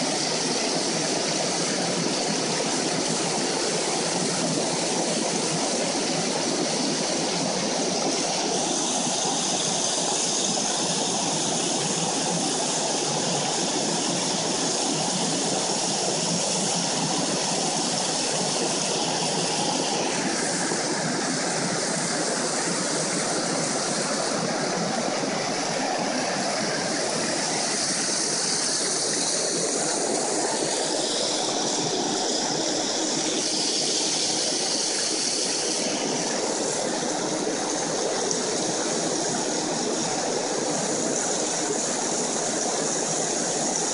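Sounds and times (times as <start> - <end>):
creek water rushing over rock: 0.0 - 43.9.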